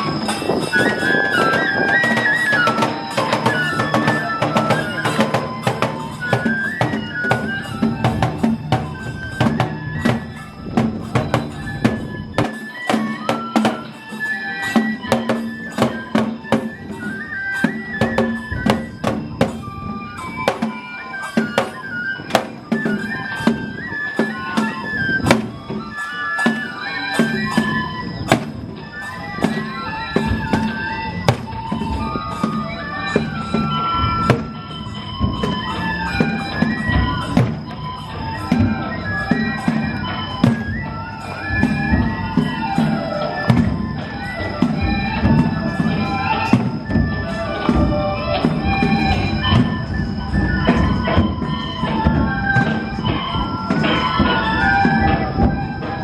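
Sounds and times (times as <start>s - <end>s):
bamboo flute melody: 0.0s - 56.0s
big drums beating: 0.0s - 56.0s.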